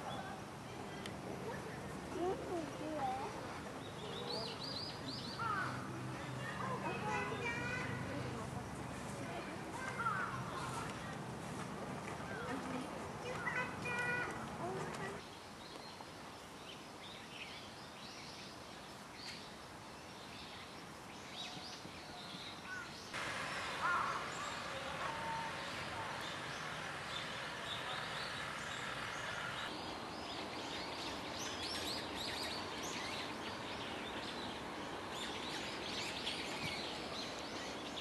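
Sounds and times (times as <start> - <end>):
small birds chirping: 0.0 - 11.2, 12.2 - 38.0
steady background hiss: 0.0 - 38.0.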